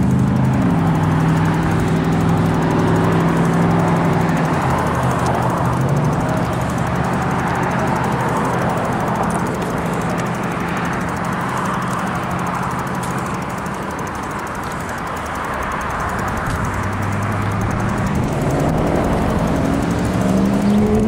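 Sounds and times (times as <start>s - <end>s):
low engine hum: 0.0s - 21.0s
road traffic: 0.0s - 21.0s.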